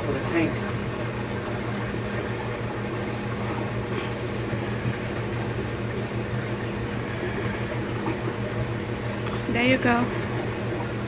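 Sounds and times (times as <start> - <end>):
low mechanical hum: 0.0 - 11.0
moving water: 0.0 - 11.0.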